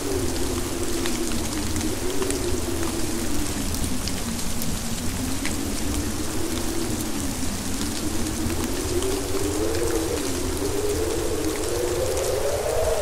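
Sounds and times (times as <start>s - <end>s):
howling storm wind: 0.0s - 13.0s.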